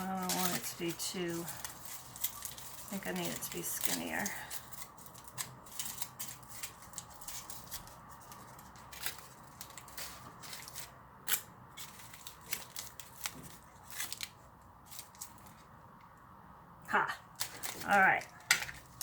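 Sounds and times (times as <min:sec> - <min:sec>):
sharp foil snaps: 0:00.0 - 0:15.5
aluminium foil crinkling: 0:00.0 - 0:15.8, 0:17.3 - 0:19.0.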